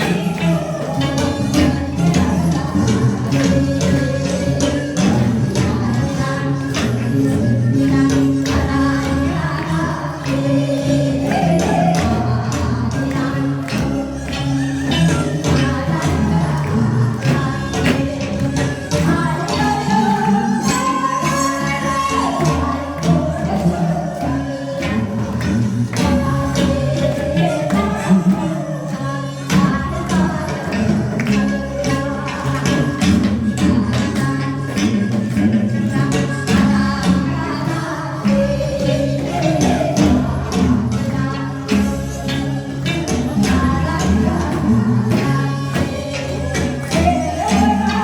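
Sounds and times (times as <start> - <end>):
backing track music: 0.0 - 48.0
person singing: 0.0 - 48.0.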